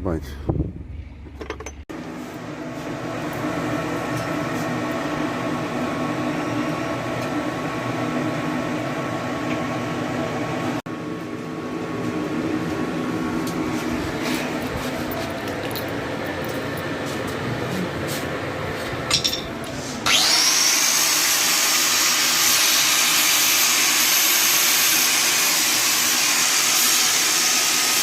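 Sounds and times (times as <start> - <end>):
mechanical hum: 0.0 - 28.0.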